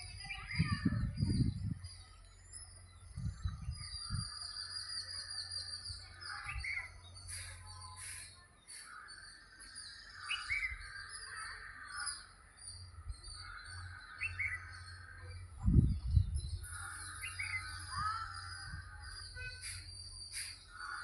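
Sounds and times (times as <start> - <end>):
bird and insect chatter: 0.0 - 21.0
songbirds chirping: 0.0 - 21.0.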